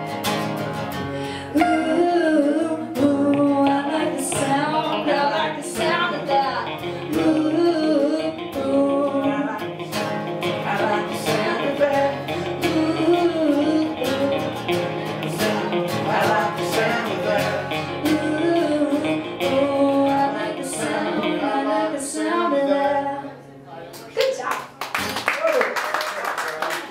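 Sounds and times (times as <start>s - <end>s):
acoustic guitar strumming: 0.0s - 23.4s
person singing: 1.3s - 23.4s.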